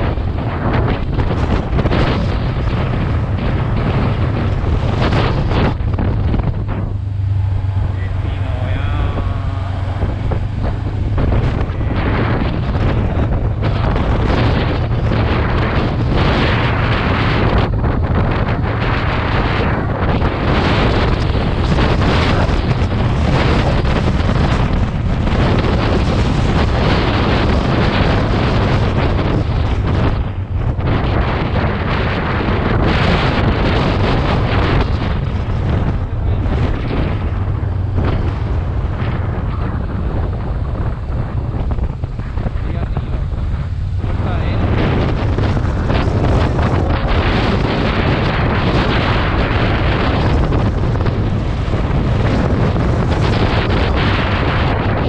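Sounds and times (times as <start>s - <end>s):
steady low drone: 0.0s - 55.0s
wind buffeting on microphone: 0.0s - 55.0s.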